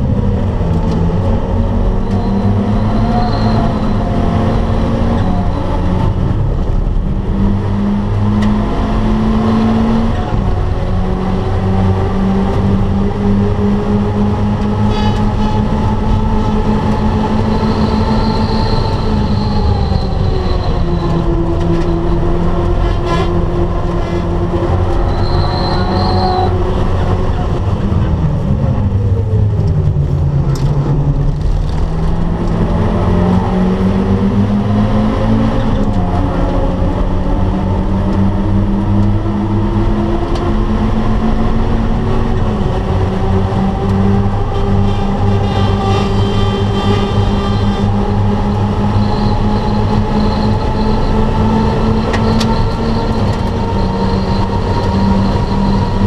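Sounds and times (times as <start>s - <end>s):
car engine from inside cabin: 0.0s - 56.0s.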